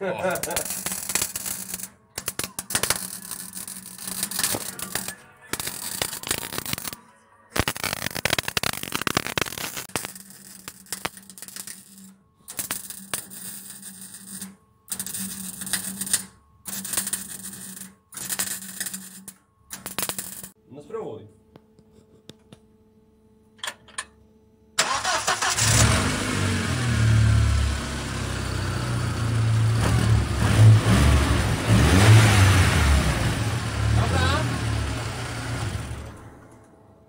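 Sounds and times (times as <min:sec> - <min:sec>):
welder arc crackling and sputtering: 0:00.1 - 0:07.0, 0:07.6 - 0:20.6, 0:26.0 - 0:36.2.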